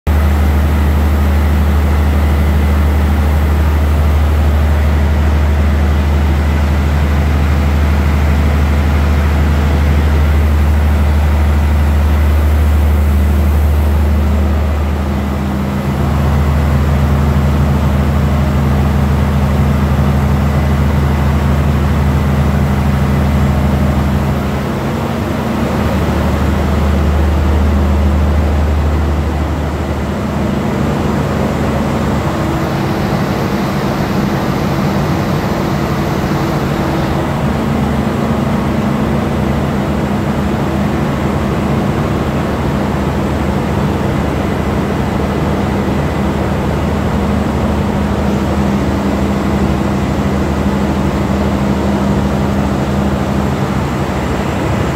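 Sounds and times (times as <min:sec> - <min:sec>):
engine room machinery drone: 0:00.0 - 0:54.9.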